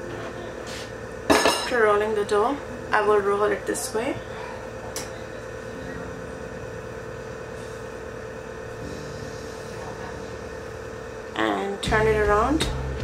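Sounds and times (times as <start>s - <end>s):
steady mid-pitched hum: 0.0s - 13.0s.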